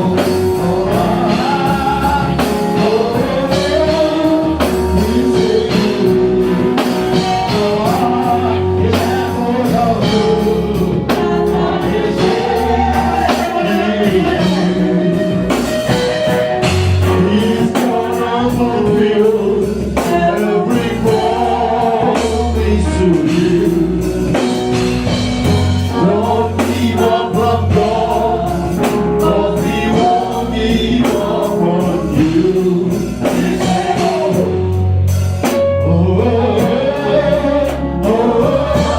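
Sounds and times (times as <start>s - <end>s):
band with bass and beat: 0.0s - 38.9s
voices singing gospel music: 0.0s - 38.9s.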